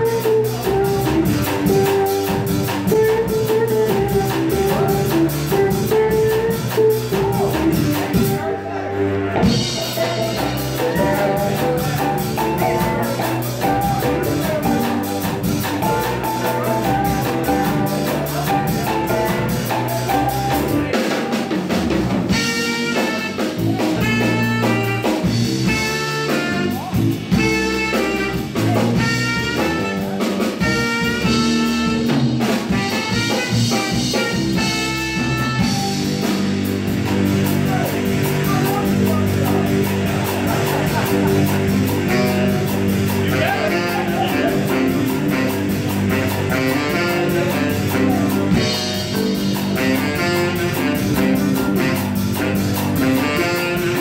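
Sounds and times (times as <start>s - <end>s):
jazz band playing: 0.0s - 54.0s.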